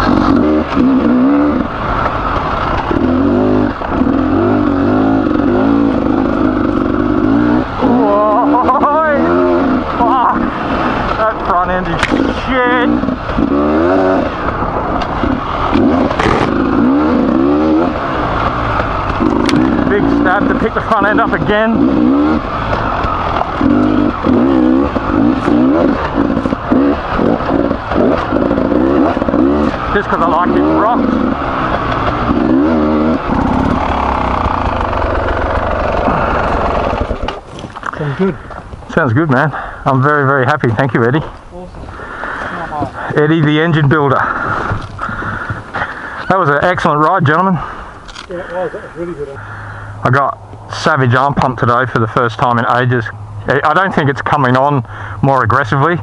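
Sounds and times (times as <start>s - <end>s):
two-stroke motorcycle engine revving: 0.0s - 41.3s, 41.9s - 50.2s.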